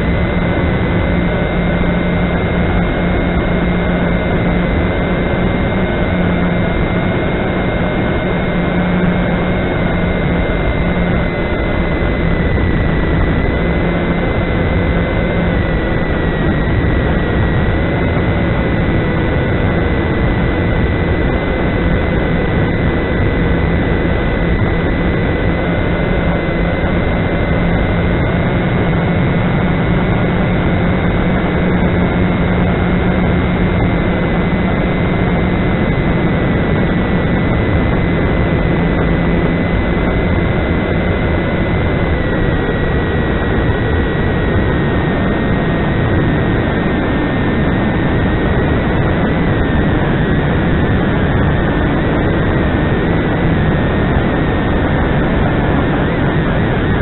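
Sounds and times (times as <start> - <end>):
drone motors buzzing: 0.0 - 57.0.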